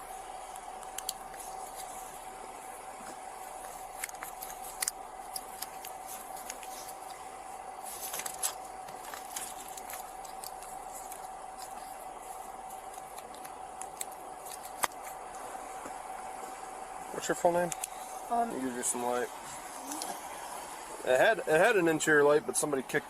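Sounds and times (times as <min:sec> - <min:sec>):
car cabin hum: 0:00.0 - 0:23.0.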